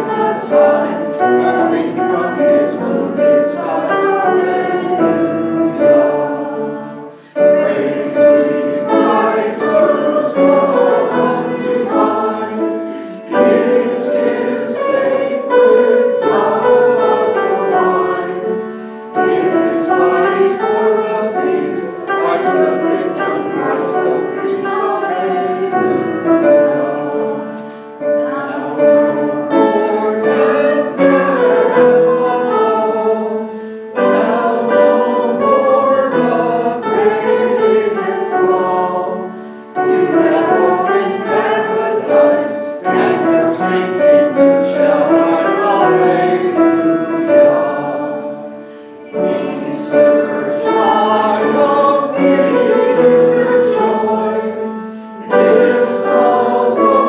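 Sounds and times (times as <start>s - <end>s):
congregation singing a hymn: 0.0s - 57.0s
instrumental accompaniment: 0.0s - 57.0s.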